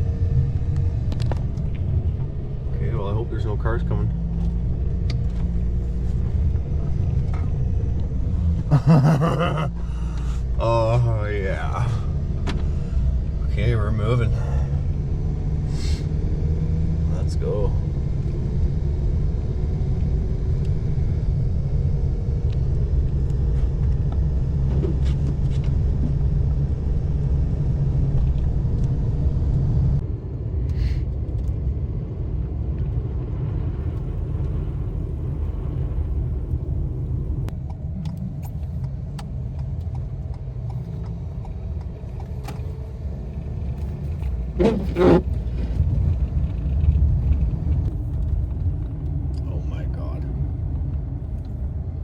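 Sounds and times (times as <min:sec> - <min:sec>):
engine and road rumble: 0:00.0 - 0:52.0.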